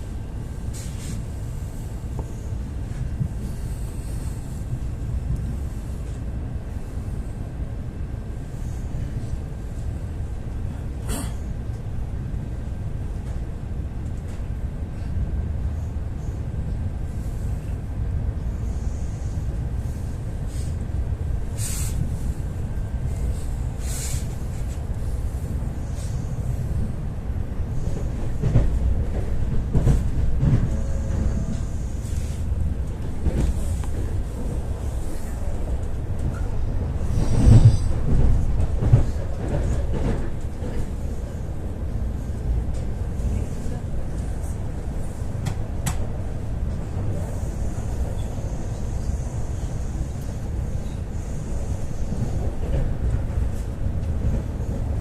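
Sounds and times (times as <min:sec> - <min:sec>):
train rumble inside carriage: 0:00.0 - 0:55.0.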